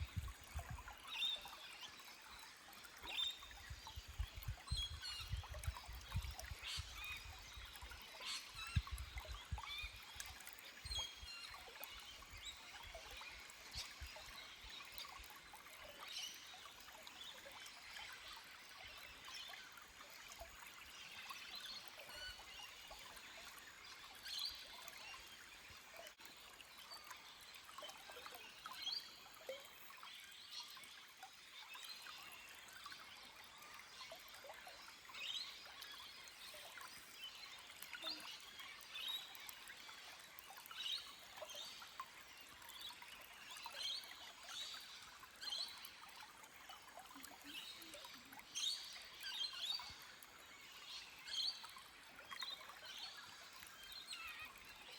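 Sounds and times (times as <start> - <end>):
stream trickling over rocks: 0.0 - 54.9.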